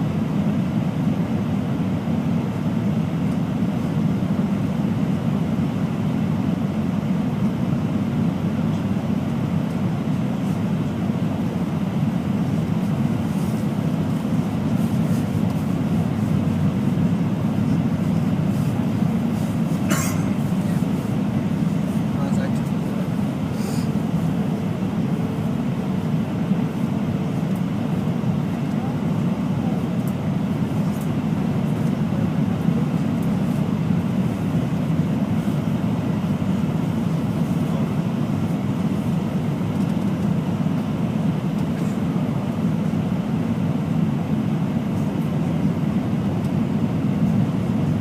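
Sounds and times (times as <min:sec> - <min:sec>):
airliner cabin noise: 0:00.0 - 0:48.0.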